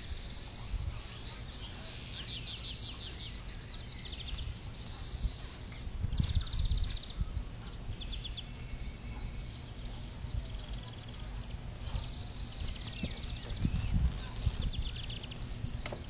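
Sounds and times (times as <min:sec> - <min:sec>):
low outdoor rumble: 0:00.0 - 0:16.0
songbirds trilling and chirping: 0:00.0 - 0:16.0.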